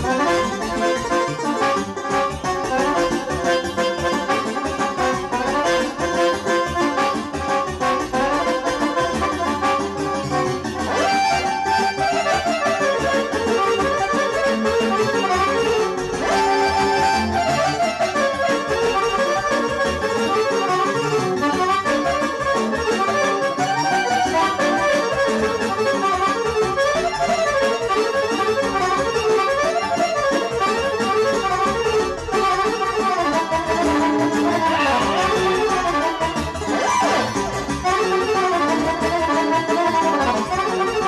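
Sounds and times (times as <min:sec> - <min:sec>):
accordion lead melody: 0:00.0 - 0:41.0
keyboard accompaniment: 0:00.0 - 0:41.0.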